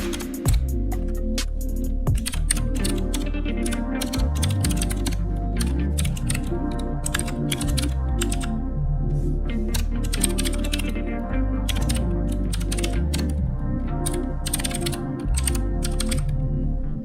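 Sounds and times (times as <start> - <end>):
keyboard typing: 0.0 - 8.6, 9.6 - 13.4, 14.0 - 16.3
music with heavy bass: 0.0 - 17.0.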